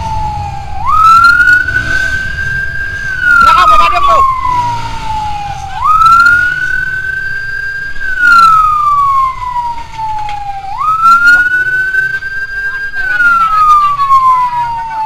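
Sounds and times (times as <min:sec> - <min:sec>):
emergency siren wailing: 0:00.0 - 0:15.0
street noise: 0:00.0 - 0:15.0.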